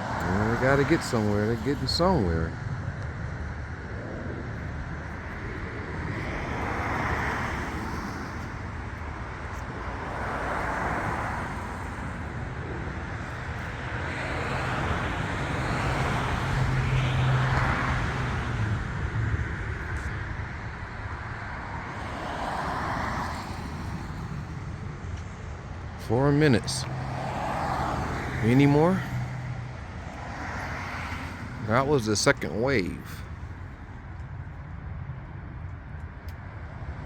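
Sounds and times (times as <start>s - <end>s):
engine hum: 0.0s - 37.0s
traffic rumble: 0.0s - 37.0s
vehicles swishing past: 0.0s - 37.0s.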